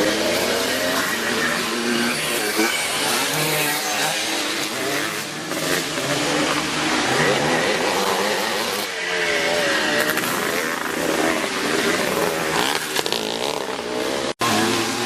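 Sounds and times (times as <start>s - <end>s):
motocross motorcycles revving: 0.0s - 15.0s.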